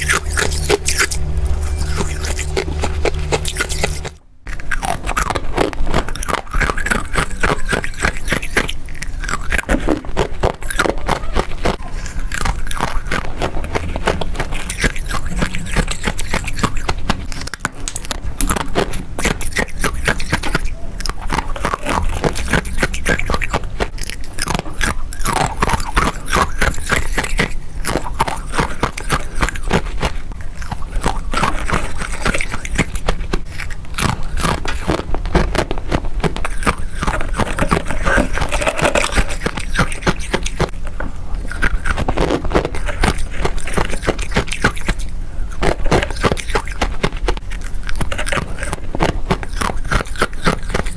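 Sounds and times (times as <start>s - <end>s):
frost being chewed crunching: 0.0s - 50.9s.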